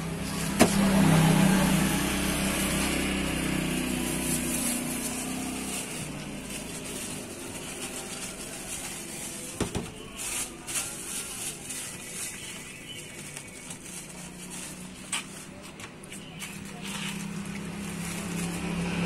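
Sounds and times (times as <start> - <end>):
plastic bag rustling: 0.8 - 19.0.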